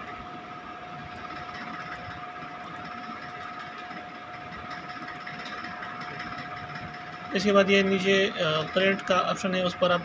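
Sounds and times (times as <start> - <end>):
machine hum with whining tone: 0.0 - 10.0.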